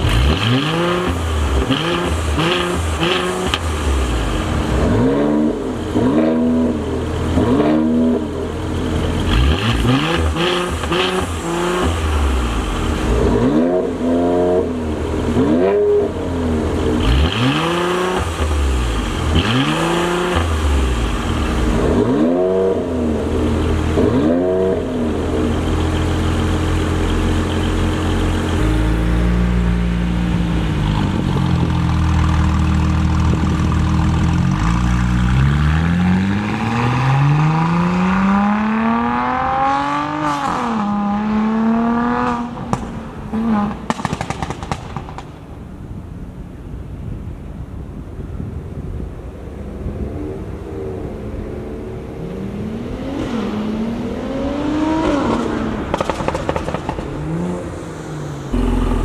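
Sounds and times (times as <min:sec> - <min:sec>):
car engine accelerating: 0:00.0 - 0:45.2, 0:49.7 - 0:59.0
car engine revving: 0:00.0 - 0:45.2, 0:50.4 - 0:59.0.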